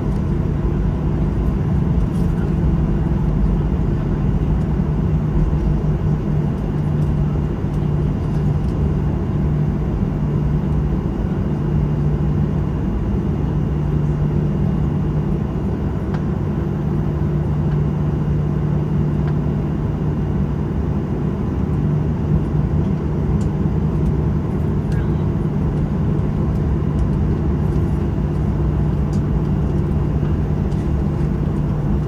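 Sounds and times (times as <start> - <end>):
aircraft cabin rumble: 0.0 - 32.0.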